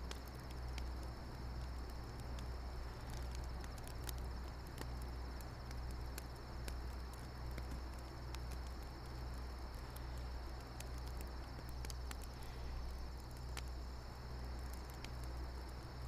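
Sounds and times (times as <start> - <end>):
campfire crackling and popping: 0.0 - 16.0
crickets chirping: 0.0 - 16.0
low steady hum: 0.0 - 16.0.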